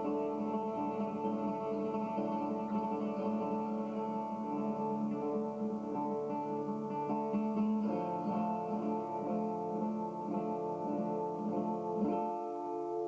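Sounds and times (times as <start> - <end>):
fingerstyle acoustic guitar: 0.0 - 13.0.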